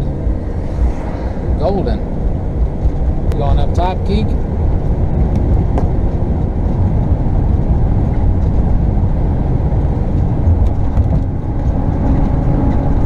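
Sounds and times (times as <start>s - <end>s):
vehicle road and engine rumble: 0.0s - 13.0s.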